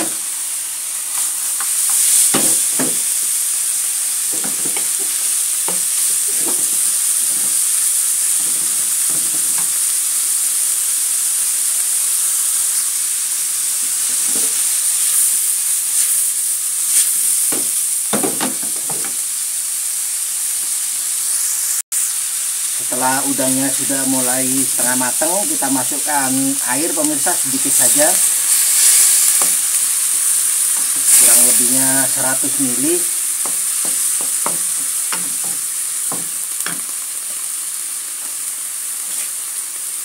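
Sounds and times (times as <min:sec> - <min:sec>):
shrimp sizzling in a wok: 0:00.0 - 0:40.0.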